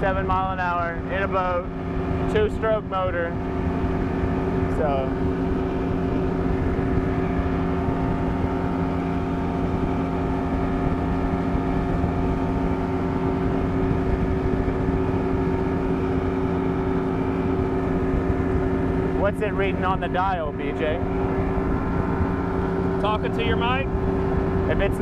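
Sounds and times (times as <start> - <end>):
outboard motor running: 0.0 - 25.0
wind rushing over microphone: 0.0 - 25.0.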